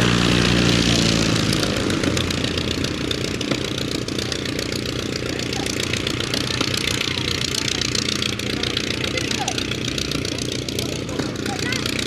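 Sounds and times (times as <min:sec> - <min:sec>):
propeller aircraft engines running: 0:00.0 - 0:12.0.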